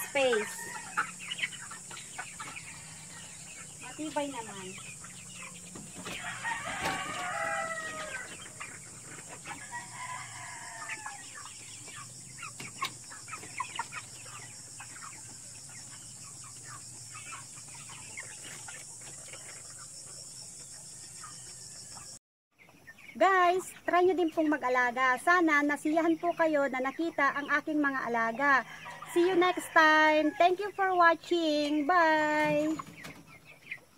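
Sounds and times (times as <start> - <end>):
chickens clucking and calling: 0.0 - 33.9.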